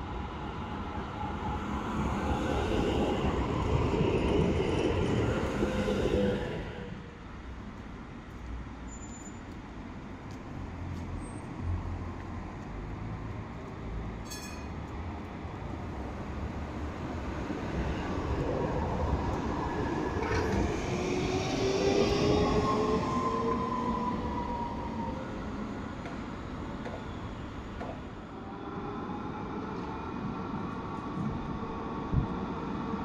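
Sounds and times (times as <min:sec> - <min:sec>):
tram passing by: 0:00.0 - 0:08.8, 0:09.8 - 0:33.0.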